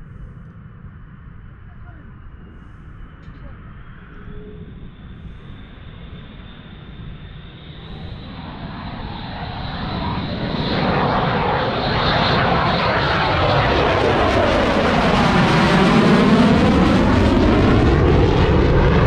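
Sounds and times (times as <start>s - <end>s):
fighter jet engine roar: 0.0s - 19.0s
high whine: 0.0s - 19.0s.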